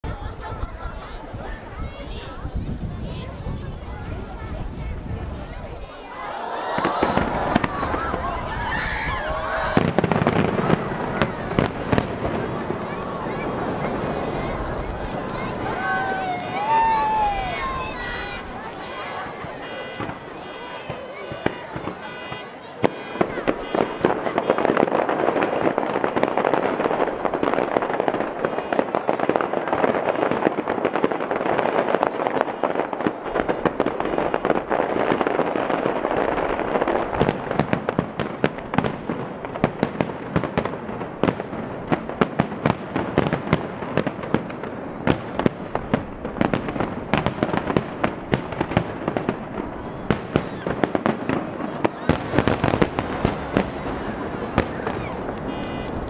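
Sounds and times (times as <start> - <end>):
fireworks bursting with sharp bangs: 0.1 - 56.0
fireworks crackle: 0.1 - 56.0.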